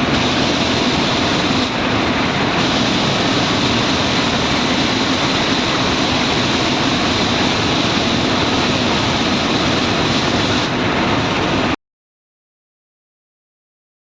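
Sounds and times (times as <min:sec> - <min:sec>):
helicopter roar: 0:00.0 - 0:11.8.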